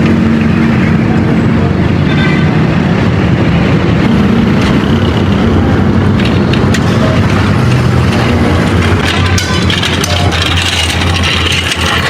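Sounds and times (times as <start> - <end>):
heavy engine running: 0.0 - 12.0.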